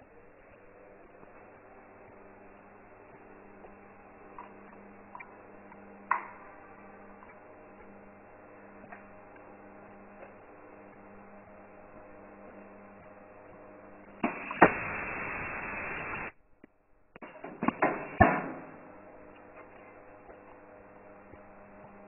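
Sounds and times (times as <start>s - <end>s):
electrical hum: 0.0s - 16.4s, 17.0s - 22.0s
loud steady sealing noise: 0.0s - 16.4s, 17.2s - 22.0s.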